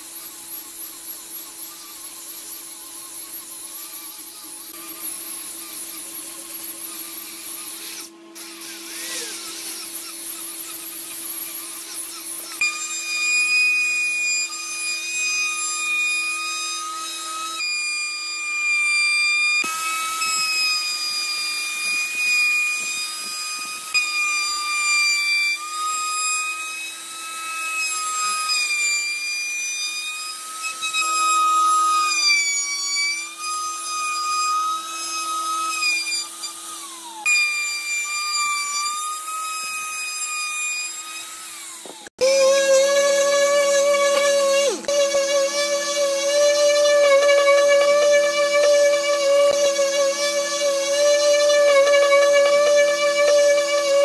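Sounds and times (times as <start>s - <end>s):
power tool whining on wood: 0.0s - 54.0s.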